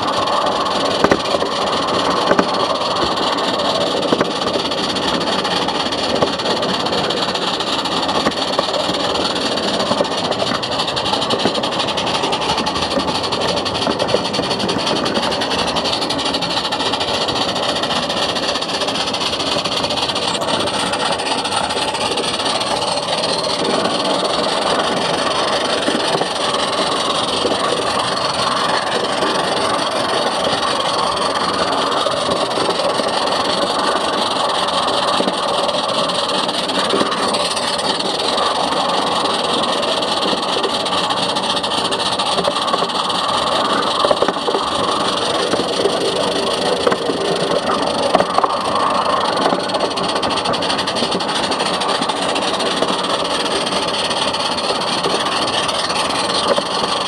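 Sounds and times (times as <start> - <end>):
steam train hissing: 0.0 - 57.0.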